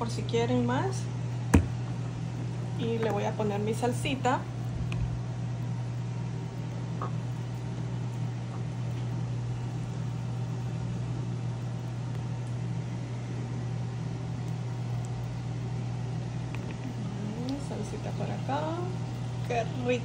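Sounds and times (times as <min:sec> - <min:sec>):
kitchen exhaust fan humming: 0:00.0 - 0:20.0.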